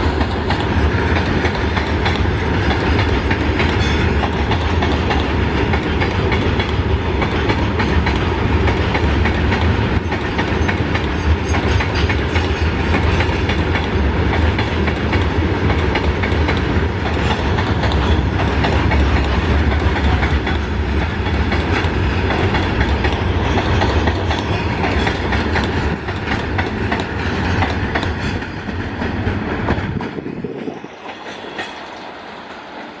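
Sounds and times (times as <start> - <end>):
wheels clicking over rail joints: 0.0 - 30.2
freight train rumbling: 0.0 - 33.0.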